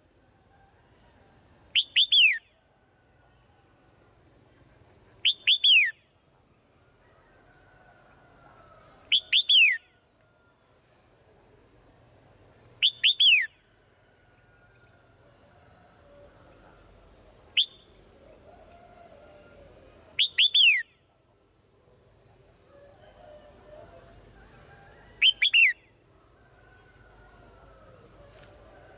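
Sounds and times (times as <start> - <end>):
faint high-pitched hiss: 0.0 - 28.9.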